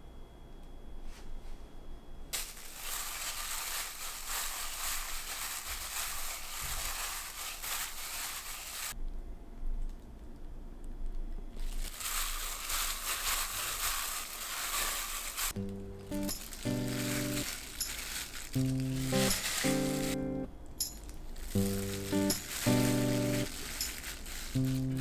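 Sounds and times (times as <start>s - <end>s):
plastic glove and cabbage rustling: 2.4s - 9.0s, 11.5s - 25.0s.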